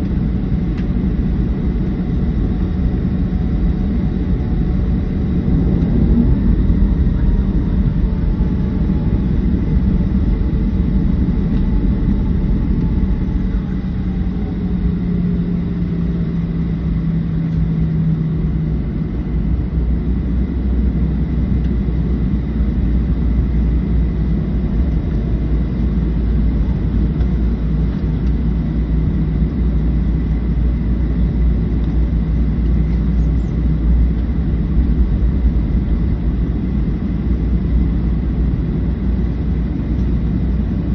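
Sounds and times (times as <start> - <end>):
aircraft engines rumbling: 0.0 - 40.9
airflow in cabin: 0.0 - 40.9.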